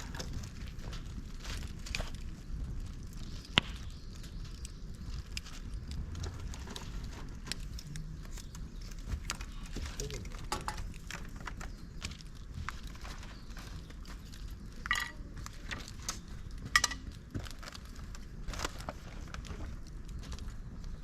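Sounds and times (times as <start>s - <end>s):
bamboo and twigs crackling in fire: 0.0s - 21.0s.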